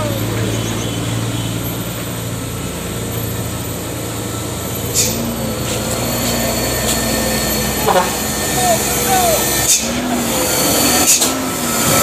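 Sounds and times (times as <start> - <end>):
diesel truck engines running: 0.0 - 12.0.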